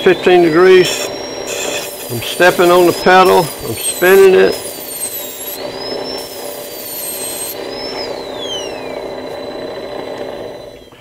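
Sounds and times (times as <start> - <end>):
high-pitched handpiece whine: 0.0 - 11.0
lap motor hum: 0.0 - 11.0.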